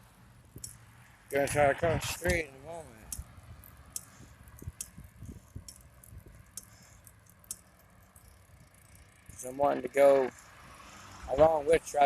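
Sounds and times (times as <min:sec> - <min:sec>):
bicycle rattling and clicking: 0:00.0 - 0:01.4, 0:02.2 - 0:11.1.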